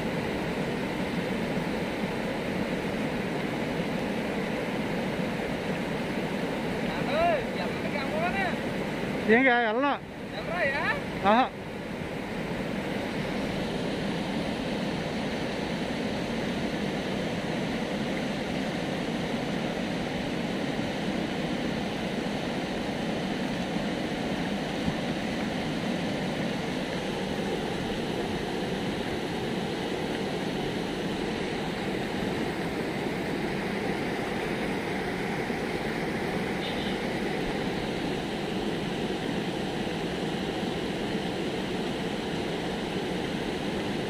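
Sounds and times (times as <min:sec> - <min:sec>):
water rushing over a weir: 0:00.0 - 0:44.0.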